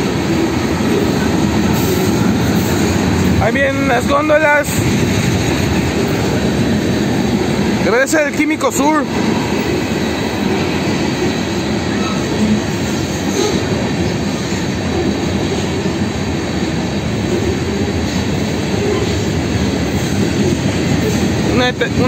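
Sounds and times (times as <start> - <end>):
freight train wheels clattering: 0.0 - 22.0.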